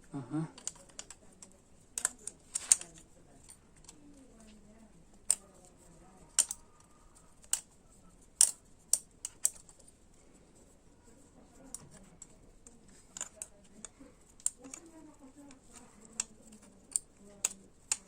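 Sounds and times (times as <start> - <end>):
hand tools clicking on metal: 0.6 - 7.8, 8.4 - 9.9, 11.7 - 18.0.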